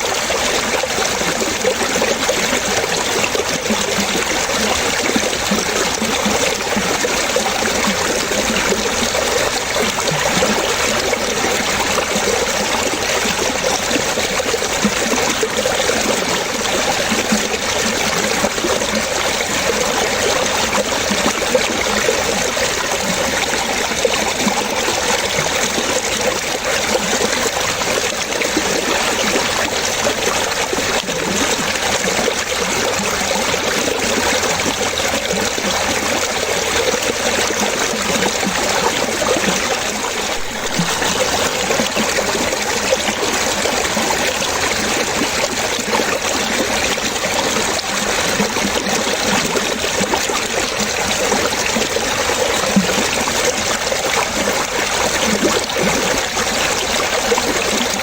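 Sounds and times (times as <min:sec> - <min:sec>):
water trickling and splashing: 0:00.0 - 0:58.0.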